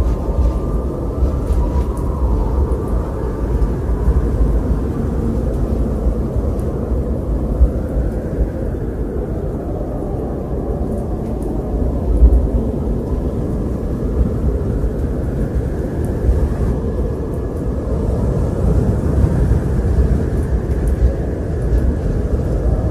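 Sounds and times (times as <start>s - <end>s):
faint wind whistling: 0.0s - 22.9s
wind rushing: 0.0s - 22.9s.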